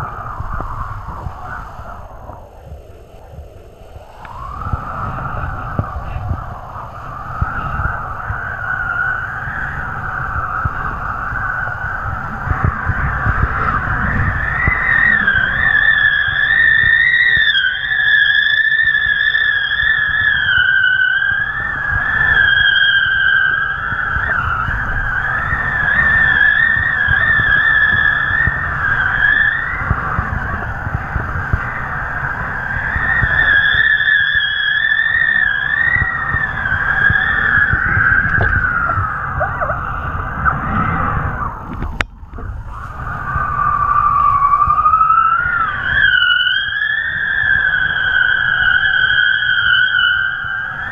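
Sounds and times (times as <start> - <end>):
kite lines whistling: 0.0 - 50.9
low wind rumble: 0.0 - 50.9.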